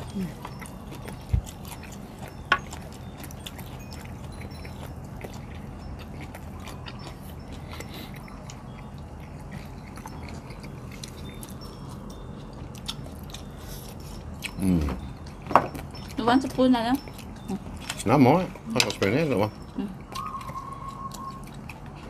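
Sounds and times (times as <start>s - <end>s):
fingers clicking against plates: 0.0s - 22.0s
low steady hum: 0.0s - 22.0s
people chewing: 0.0s - 22.0s.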